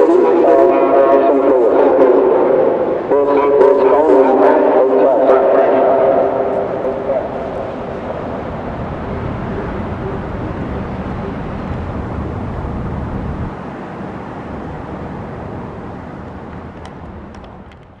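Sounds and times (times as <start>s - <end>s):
noisy outdoor rumble: 0.0s - 18.0s.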